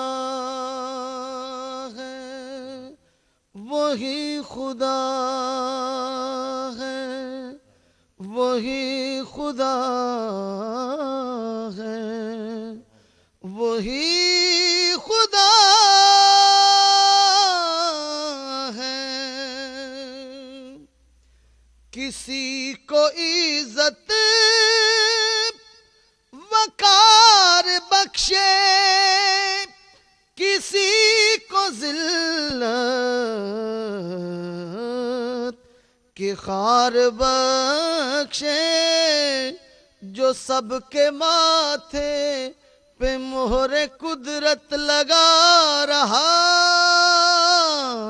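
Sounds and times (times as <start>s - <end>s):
man singing unaccompanied: 0.0s - 21.0s, 21.9s - 48.0s.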